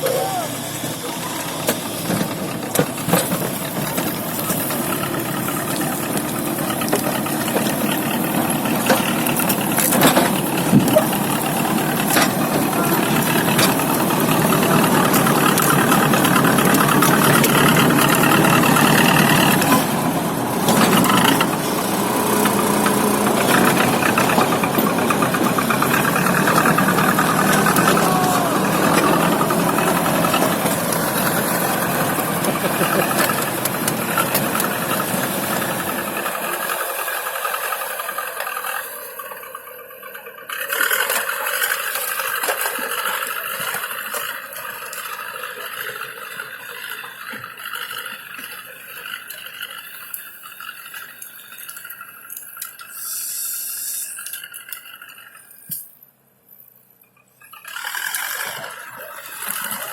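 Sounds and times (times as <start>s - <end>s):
logging machine engine running: 0.0s - 55.8s, 57.4s - 59.9s.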